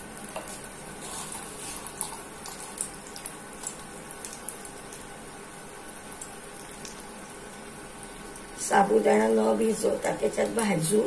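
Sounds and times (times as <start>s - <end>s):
cutlet sizzling on a griddle: 0.0s - 9.6s.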